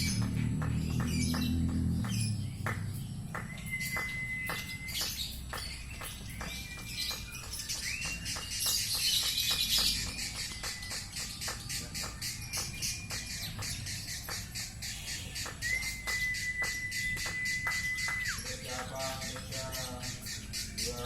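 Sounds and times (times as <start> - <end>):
bird clicking chirps: 0.0 - 21.0
bird whistled notes: 0.9 - 20.9.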